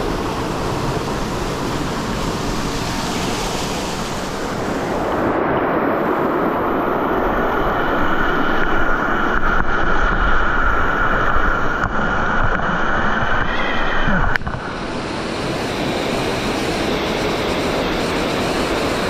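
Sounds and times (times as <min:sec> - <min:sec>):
stream rushing over rocks: 0:02.1 - 0:18.8.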